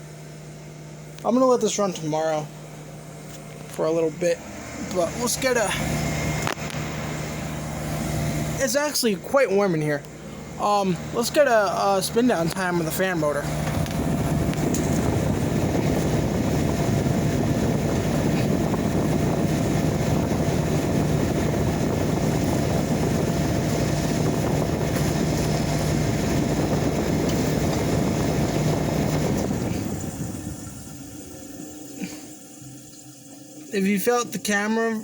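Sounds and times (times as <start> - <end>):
dehumidifier humming: 0.0 - 35.0
fan spinning down: 0.0 - 35.0.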